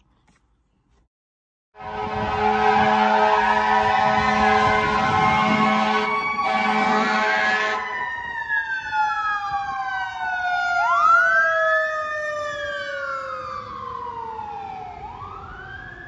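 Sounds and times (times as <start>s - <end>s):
fire engine siren wailing: 1.8s - 16.0s.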